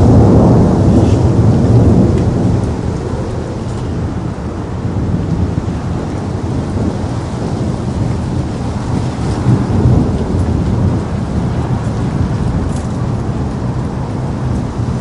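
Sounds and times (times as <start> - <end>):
steady rain: 0.0 - 15.0
thunder rumble: 0.0 - 15.0.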